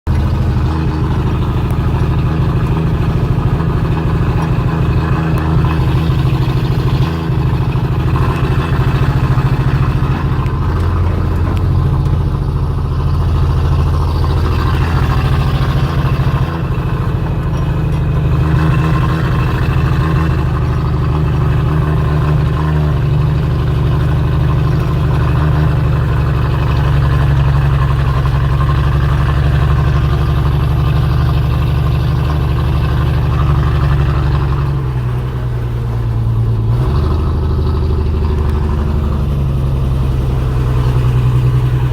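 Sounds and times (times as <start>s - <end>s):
low engine drone: 0.0s - 41.9s.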